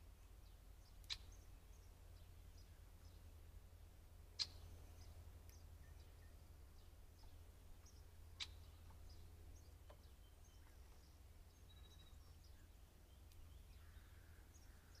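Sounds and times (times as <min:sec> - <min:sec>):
low steady rumble: 0:00.0 - 0:15.0
bird chirps: 0:00.4 - 0:03.3, 0:04.3 - 0:15.0.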